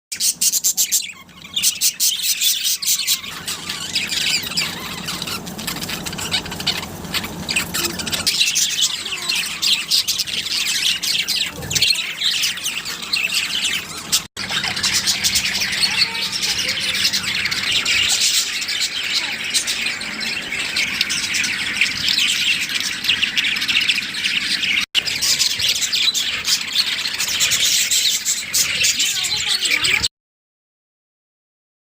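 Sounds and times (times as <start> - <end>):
budgerigars chattering: 0.1 - 30.1.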